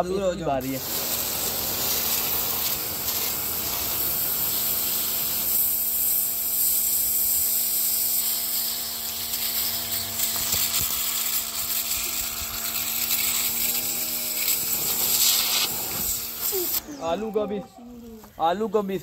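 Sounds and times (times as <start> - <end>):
pressure washer pump hum: 0.6 - 17.5
water jet hissing: 0.6 - 17.5.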